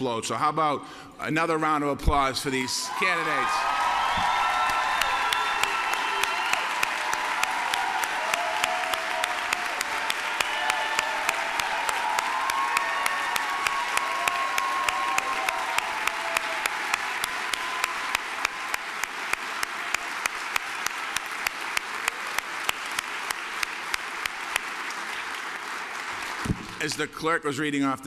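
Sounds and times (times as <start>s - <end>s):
audience applauding: 2.9s - 27.1s.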